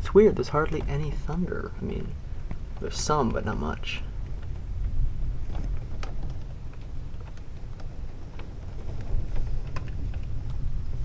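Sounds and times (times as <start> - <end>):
low storm rumble: 0.0 - 11.0
raindrops ticking: 0.0 - 11.0.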